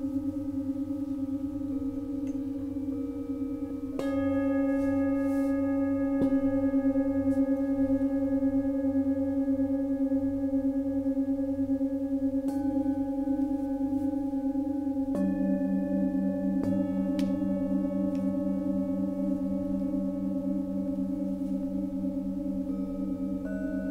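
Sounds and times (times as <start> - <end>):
singing bowls ringing: 0.0 - 23.9.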